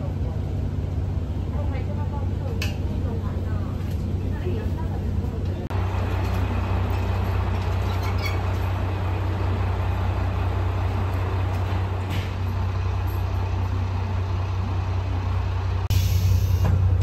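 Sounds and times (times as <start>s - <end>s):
diesel railcar engine idling: 0.0s - 17.0s.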